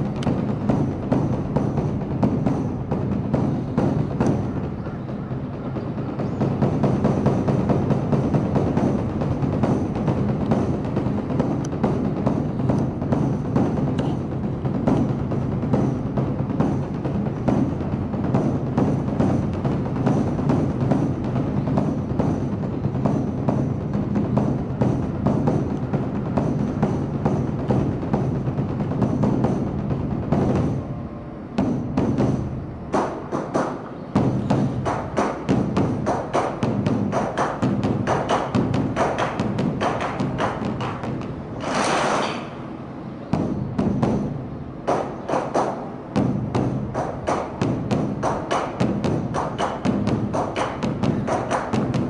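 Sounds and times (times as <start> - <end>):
large drum strikes: 0.0 - 4.8, 5.8 - 30.9, 31.6 - 41.4, 43.3 - 52.0.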